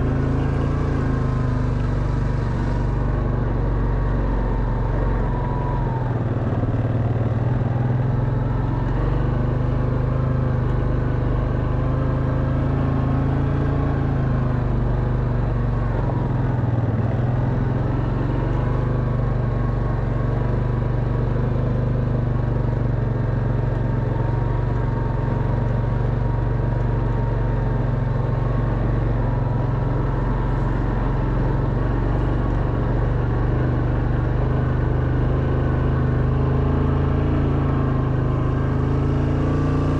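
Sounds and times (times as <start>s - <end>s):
quad bike engine under load: 0.0s - 39.9s.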